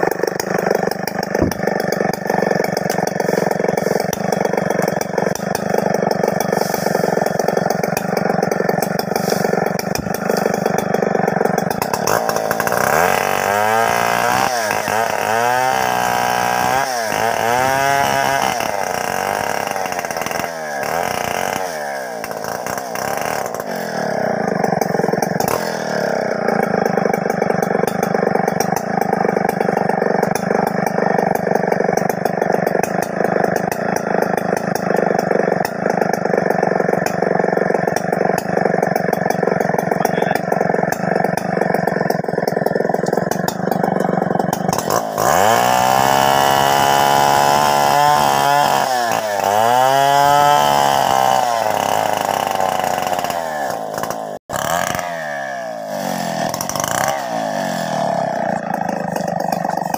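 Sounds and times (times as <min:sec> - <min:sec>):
chainsaw cutting into log: 0:00.0 - 0:59.9.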